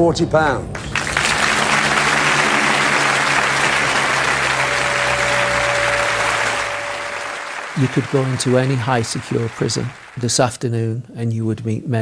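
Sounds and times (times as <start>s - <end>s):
studio audience applauding: 0.7s - 10.8s.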